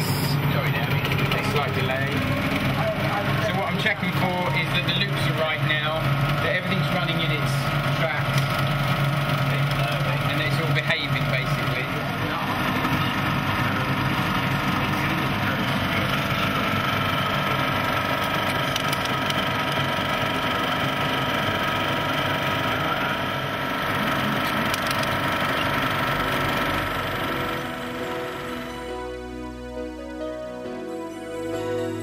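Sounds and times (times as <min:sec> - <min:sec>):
film projector running: 0:00.0 - 0:29.4.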